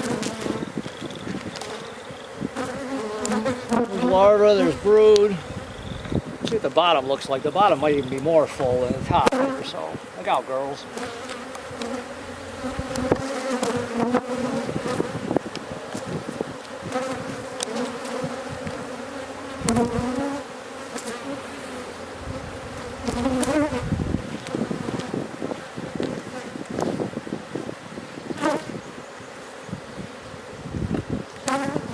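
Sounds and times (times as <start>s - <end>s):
bees buzzing: 0.0s - 31.9s.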